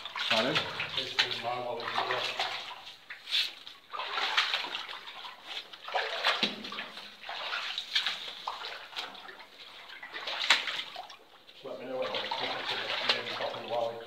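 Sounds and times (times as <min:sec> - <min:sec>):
boots wading through muddy water: 0:00.0 - 0:14.0.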